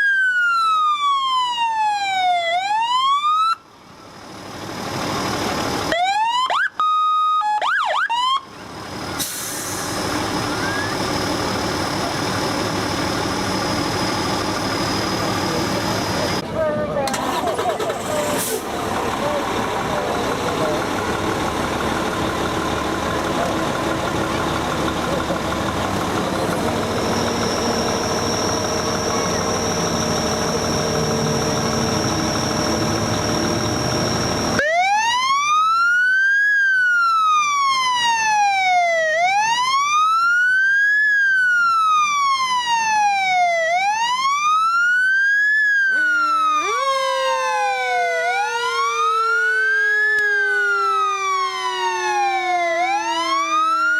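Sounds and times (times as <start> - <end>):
lower siren tone: 0.0 - 16.4, 20.2 - 53.9
siren wailing: 0.0 - 16.4, 17.2 - 53.9
fire engine engine running: 0.0 - 53.9.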